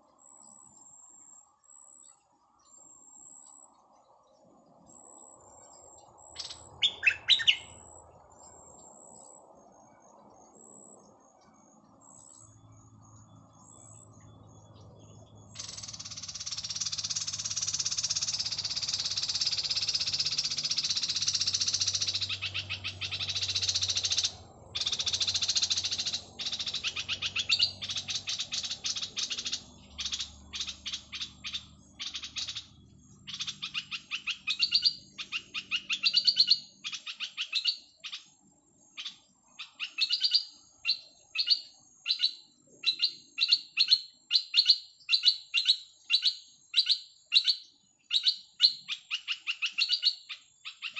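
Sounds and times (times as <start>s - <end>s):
bird chattering song: 0.0s - 50.9s.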